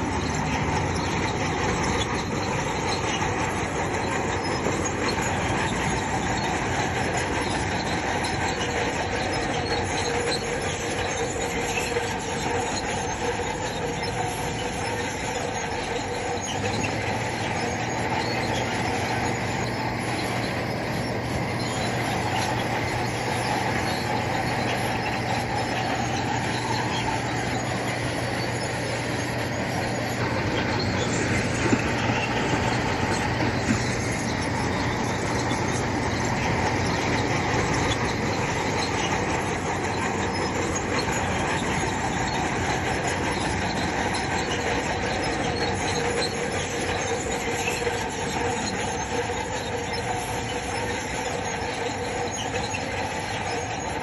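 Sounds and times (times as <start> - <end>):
bulldozer diesel engine running: 0.0 - 54.0
steel tracks squealing and clanking: 0.0 - 54.0.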